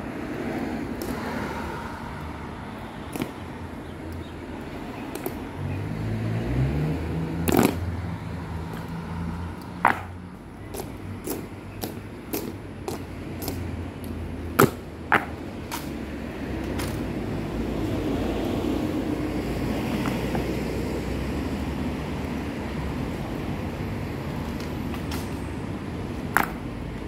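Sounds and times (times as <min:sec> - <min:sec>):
low traffic rumble: 0:00.0 - 0:27.0.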